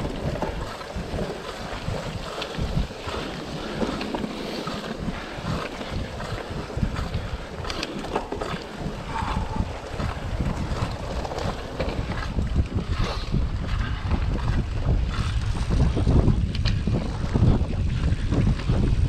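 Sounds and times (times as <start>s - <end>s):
bike clicks and rattles: 0.0s - 19.0s
wind buffeting microphone: 0.0s - 19.0s.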